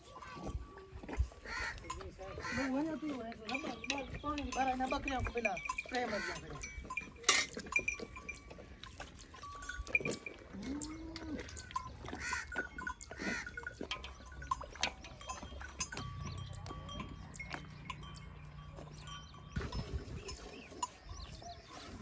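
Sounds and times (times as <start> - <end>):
cattle bells clinking: 0.0 - 22.0.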